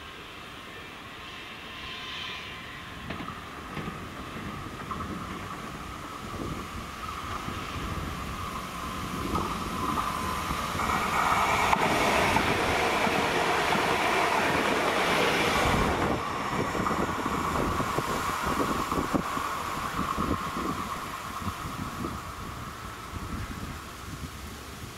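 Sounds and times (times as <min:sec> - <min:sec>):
train passing on rails: 0:00.0 - 0:24.9
wheels clicking over rail joints: 0:03.0 - 0:24.3.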